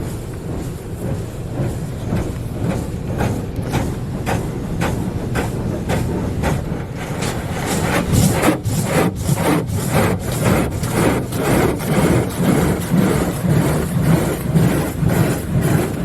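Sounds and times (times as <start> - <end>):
car wash water jets pulsing: 0.0 - 16.0
low rumble: 0.0 - 16.0.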